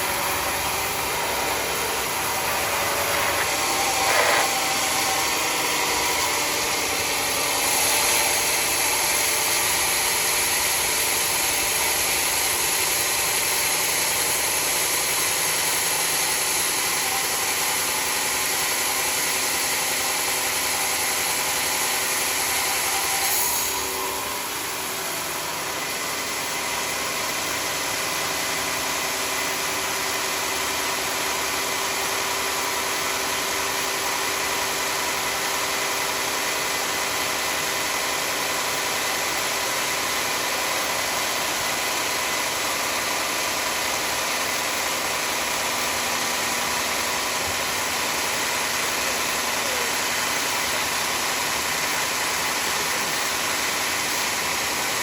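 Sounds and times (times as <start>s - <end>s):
sawmill engine: 0.0s - 55.0s.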